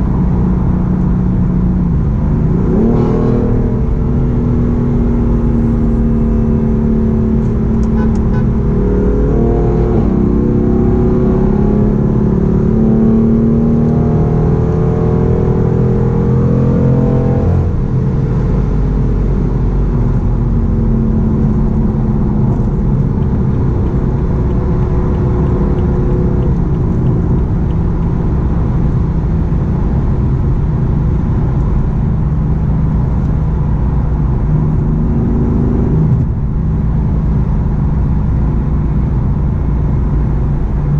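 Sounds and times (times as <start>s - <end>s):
car engine accelerating: 0.0s - 40.9s
road rumble: 0.0s - 40.9s.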